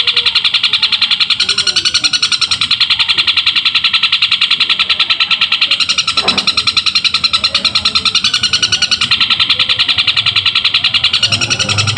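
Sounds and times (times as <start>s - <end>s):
bird singing fast high chirps: 0.0s - 11.9s.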